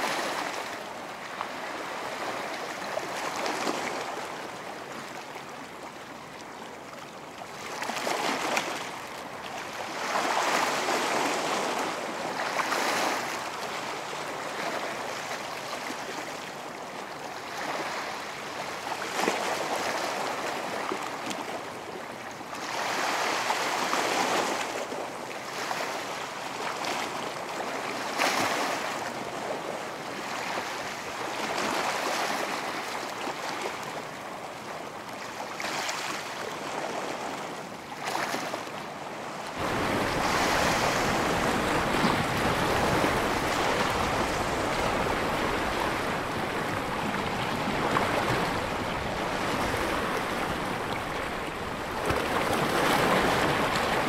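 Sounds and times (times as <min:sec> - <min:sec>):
waves breaking on beach: 0:00.0 - 0:54.0.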